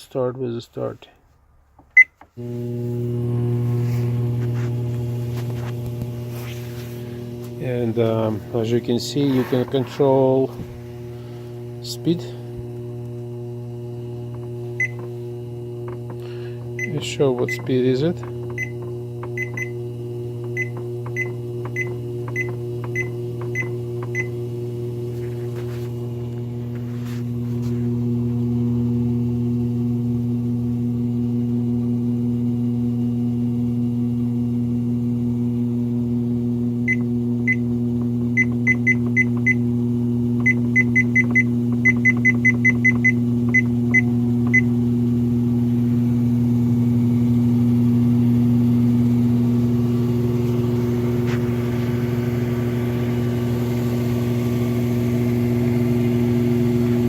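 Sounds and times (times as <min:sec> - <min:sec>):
treadmill motor humming: 0:02.0 - 0:57.0.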